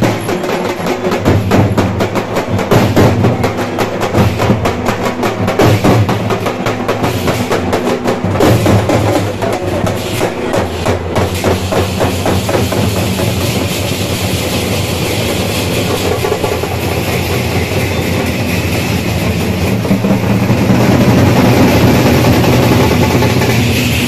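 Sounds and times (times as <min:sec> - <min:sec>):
drum beats: 0:00.0 - 0:24.0.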